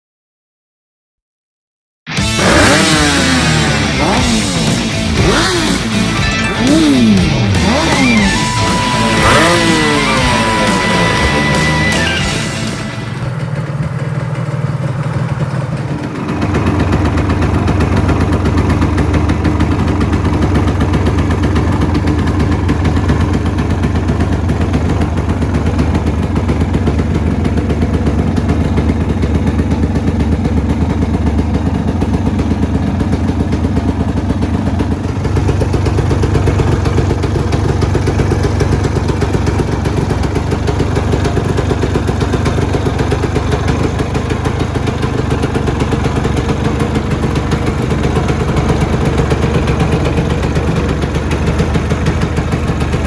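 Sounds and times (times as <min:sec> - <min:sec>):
motorcycle engine idling: 0:02.2 - 0:53.0.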